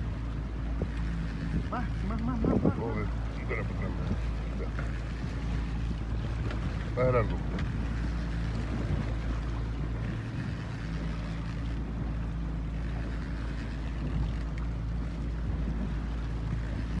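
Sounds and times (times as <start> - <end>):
boat engine humming: 0.0 - 17.0
wind on microphone: 0.0 - 17.0.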